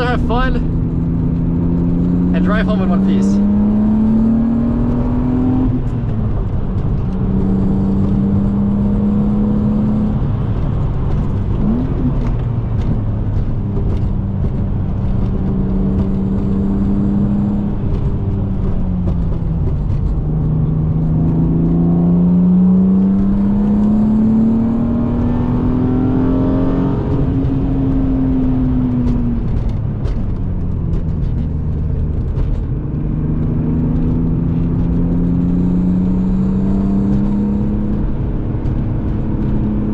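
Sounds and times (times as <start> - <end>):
car engine revving in cabin: 0.0 - 39.9
road noise: 0.0 - 39.9.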